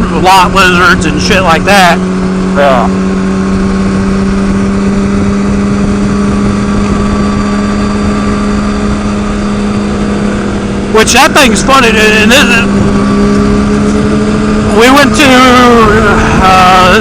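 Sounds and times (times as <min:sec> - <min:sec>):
motorcycle engine cruising: 0:00.0 - 0:17.0
road noise: 0:00.0 - 0:17.0
wind rush: 0:00.0 - 0:17.0.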